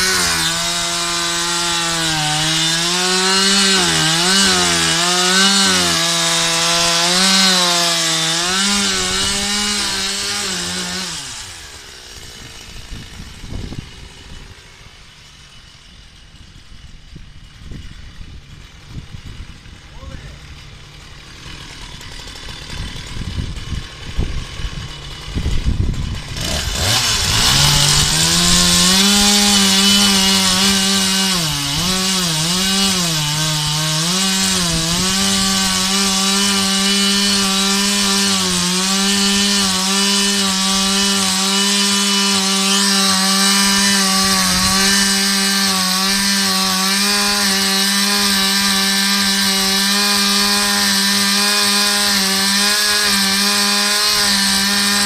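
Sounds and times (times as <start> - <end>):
chainsaw engine running: 0.0 - 55.0.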